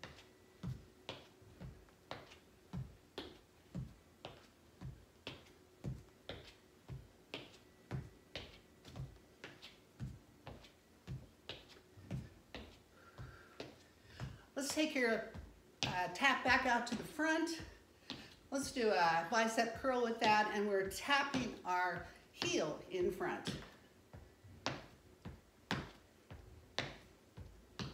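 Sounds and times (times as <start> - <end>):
footsteps tapping on wooden floor: 0.0 - 18.3, 23.4 - 27.9.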